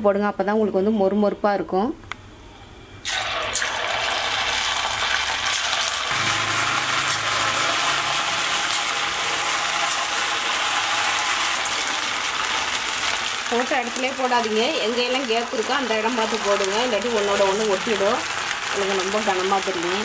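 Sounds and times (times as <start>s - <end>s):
hot oil sizzling and crackling: 3.0s - 20.0s.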